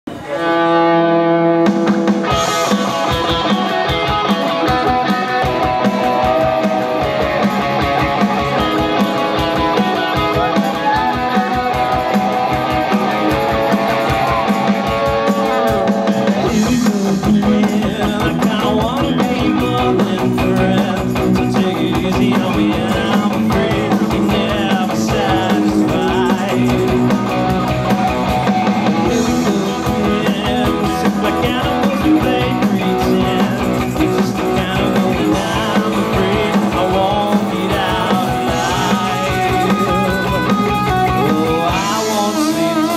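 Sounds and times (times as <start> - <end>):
rock band playing live: 0.1 - 42.9.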